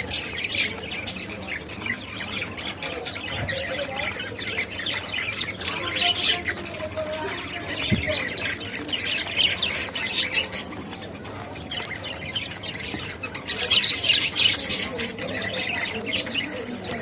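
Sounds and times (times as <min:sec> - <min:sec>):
budgerigars chirping and chattering: 0:00.0 - 0:17.0.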